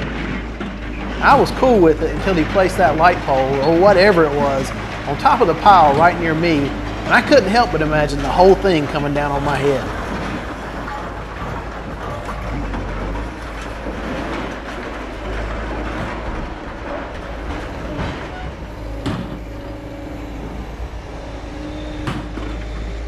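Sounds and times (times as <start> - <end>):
material handler machine running: 0.0 - 23.0
scrap metal clanking and scraping: 0.0 - 23.0.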